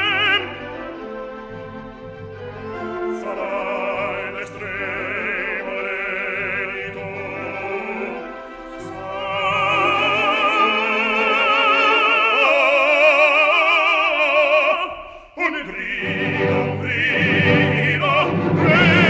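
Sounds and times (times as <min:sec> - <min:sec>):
orchestra playing: 0:00.0 - 0:14.8, 0:15.6 - 0:19.0
operatic singing: 0:00.0 - 0:19.0.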